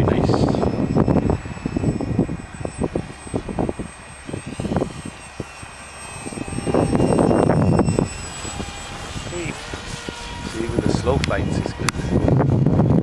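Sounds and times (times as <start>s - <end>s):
model jet motor whining: 0.0s - 13.0s
wind buffeting microphone: 0.0s - 13.0s.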